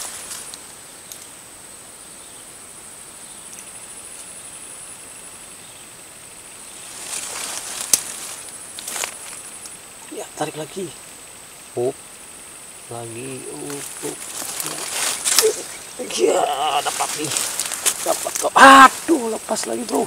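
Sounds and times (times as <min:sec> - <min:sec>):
insects droning: 0:00.0 - 0:20.0
vegetation rustle: 0:00.0 - 0:20.0.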